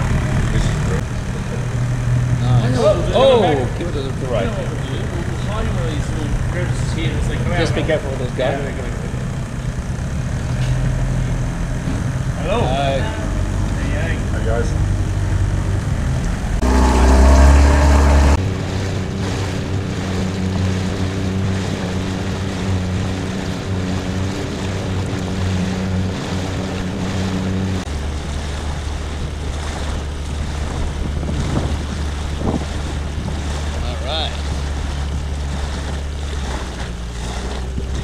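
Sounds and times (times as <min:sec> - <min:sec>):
small boat motor droning: 0:00.0 - 0:38.0
water splashing: 0:00.0 - 0:38.0
wind on microphone: 0:00.0 - 0:38.0.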